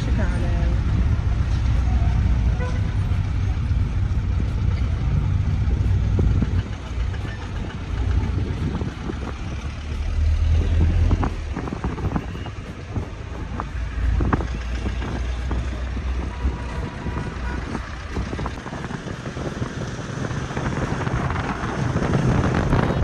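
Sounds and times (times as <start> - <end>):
road vehicle rumbling: 0.0 - 23.0.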